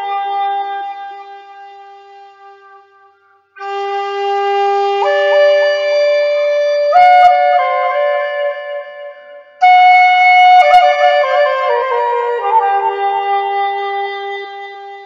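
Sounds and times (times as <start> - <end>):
flute playing slow melody: 0.0 - 15.0.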